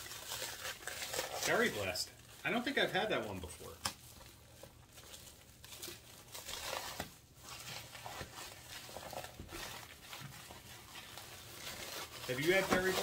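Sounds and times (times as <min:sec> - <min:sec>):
packing material crinkling: 0:00.0 - 0:13.0.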